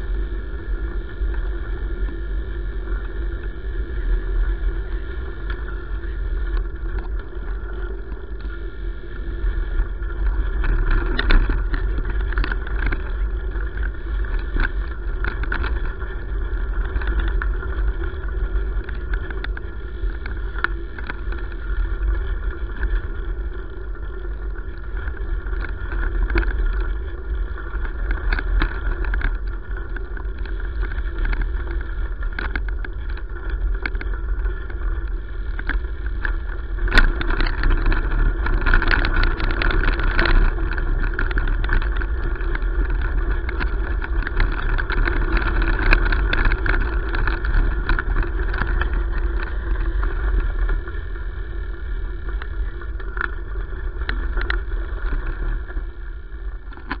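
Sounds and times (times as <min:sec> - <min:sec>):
bicycle tyres on gravel: 0:00.0 - 0:57.0
wind rumble on microphone: 0:00.0 - 0:57.0
small clicks and rattles: 0:02.8 - 0:57.0.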